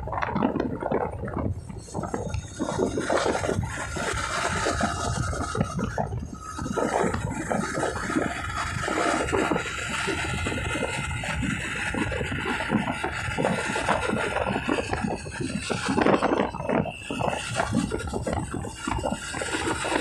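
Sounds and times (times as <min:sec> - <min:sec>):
wind buffeting microphone: 0:00.0 - 0:20.0
thin steady whine: 0:00.7 - 0:20.0.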